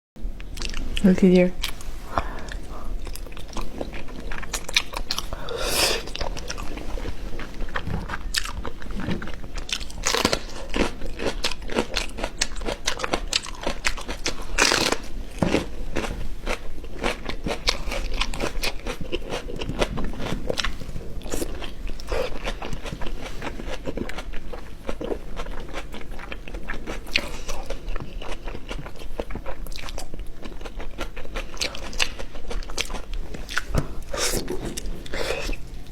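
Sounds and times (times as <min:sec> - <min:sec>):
crunchy chewing: 0:01.6 - 0:35.9.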